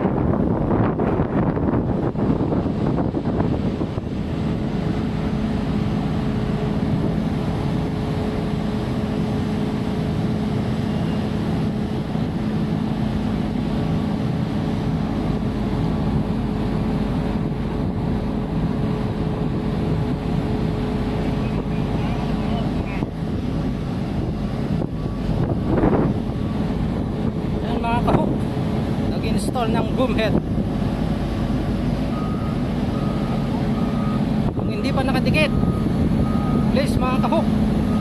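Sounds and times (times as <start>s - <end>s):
diesel engine droning: 0.0s - 38.0s.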